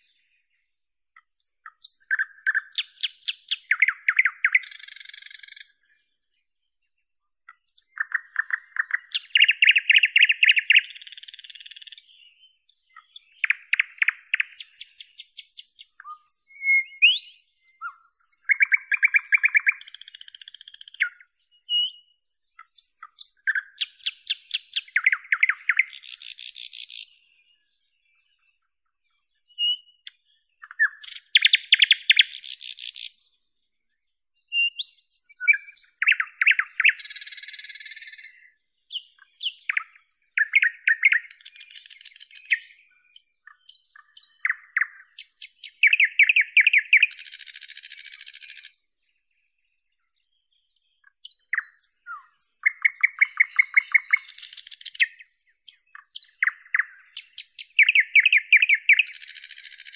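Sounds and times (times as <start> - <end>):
nightingale singing: 0.0 - 59.9.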